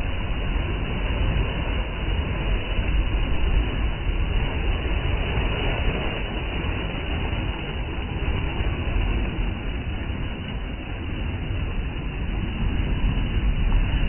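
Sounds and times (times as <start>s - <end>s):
sea surf against rocks: 0.0s - 14.0s.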